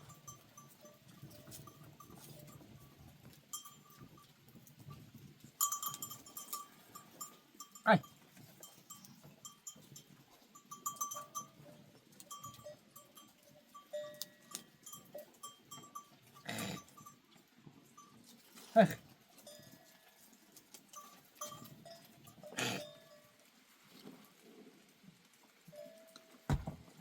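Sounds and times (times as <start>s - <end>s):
goat and sheep bells clanking: 0.0s - 23.5s, 25.7s - 26.8s.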